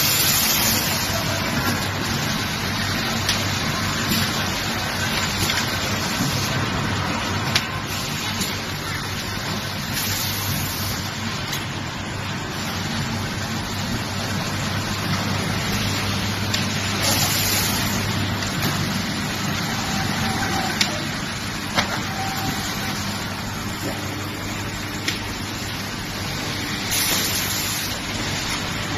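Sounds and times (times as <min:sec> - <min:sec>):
mechanical hum of production line: 0:00.0 - 0:28.9.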